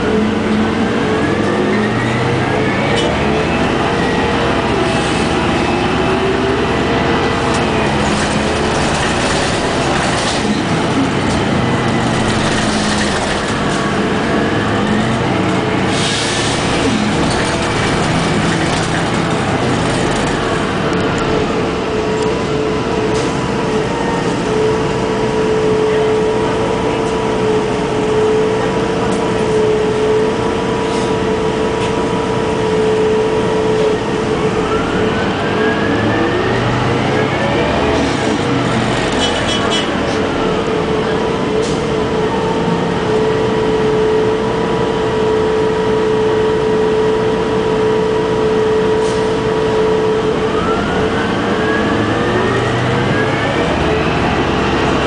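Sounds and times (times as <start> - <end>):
bus engine whining: 0.0 - 55.0
road noise: 0.0 - 55.0.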